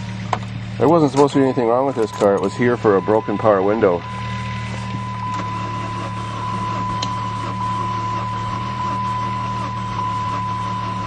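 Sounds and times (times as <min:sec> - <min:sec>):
car engine cranking on starter: 0:00.0 - 0:11.0.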